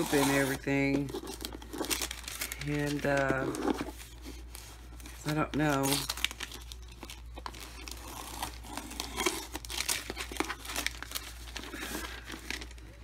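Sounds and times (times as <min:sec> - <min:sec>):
wrapping paper crinkling and tearing: 0:00.0 - 0:13.0.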